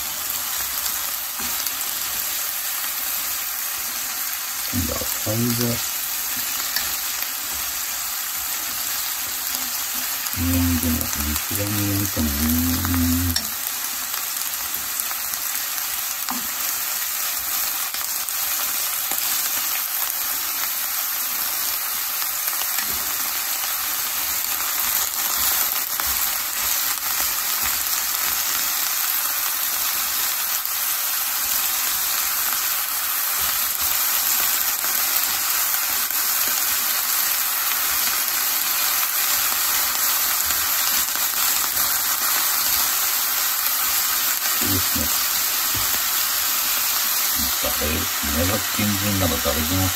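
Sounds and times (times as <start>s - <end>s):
food sizzling in a pan: 0.0s - 49.9s.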